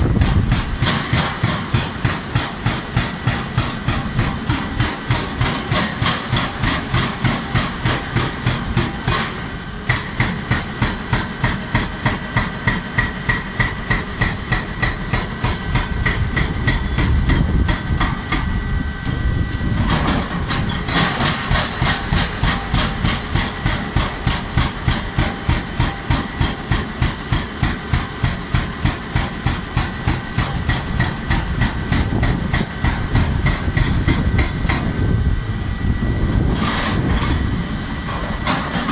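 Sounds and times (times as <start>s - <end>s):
hydraulic breaker hammering rock: 0.0s - 19.2s, 19.8s - 35.1s, 36.5s - 38.9s
excavator engine running: 0.0s - 38.9s.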